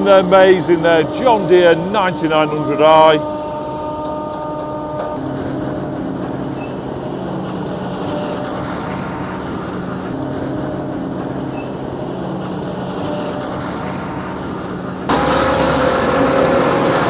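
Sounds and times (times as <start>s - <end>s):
forage harvester droning: 0.0s - 17.0s.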